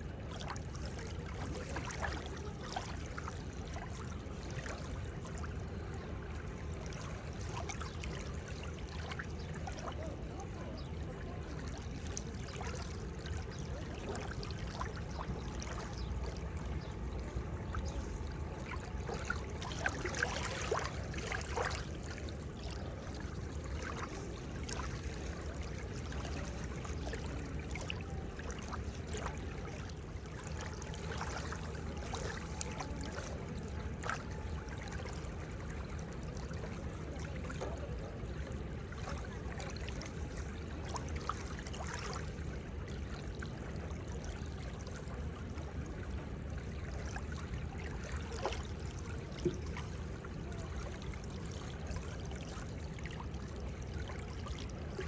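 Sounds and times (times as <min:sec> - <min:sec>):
seawater lapping at shore: 0:00.0 - 0:55.0
small water splashes: 0:00.0 - 0:55.0.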